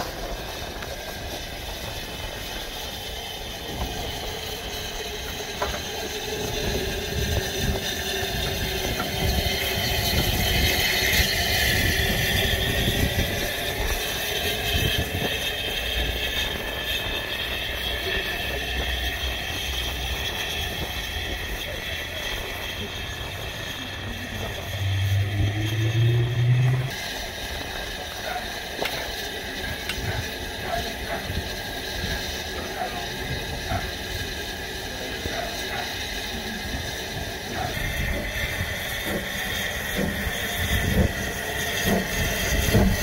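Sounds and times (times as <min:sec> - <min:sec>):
steam locomotive clanking past: 0:00.0 - 0:43.0.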